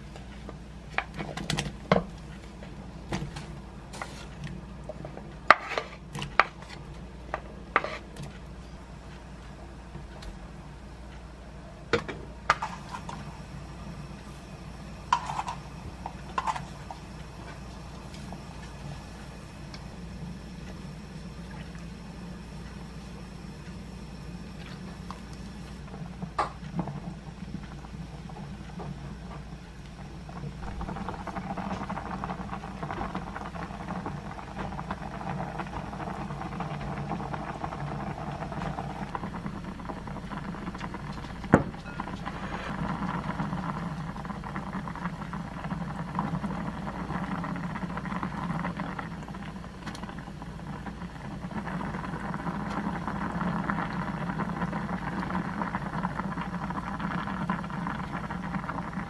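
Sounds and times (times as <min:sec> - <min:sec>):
broth boiling in a pot: 0:00.0 - 0:59.0.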